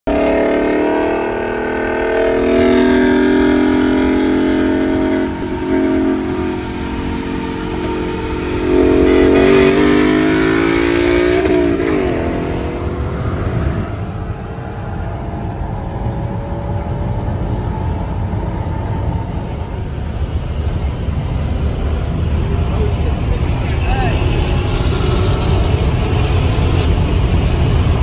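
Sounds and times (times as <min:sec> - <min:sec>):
car engine revving: 0:00.1 - 0:28.0.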